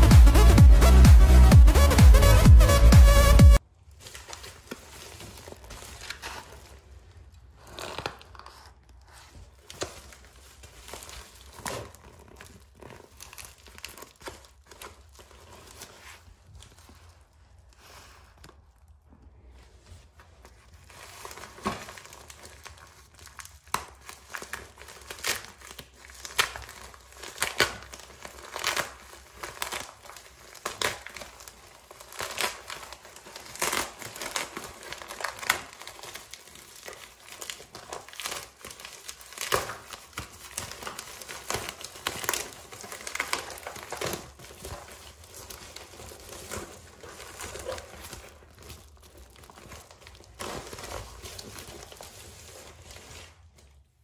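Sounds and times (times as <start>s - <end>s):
bubble mailer crinkling: 0.0s - 54.0s.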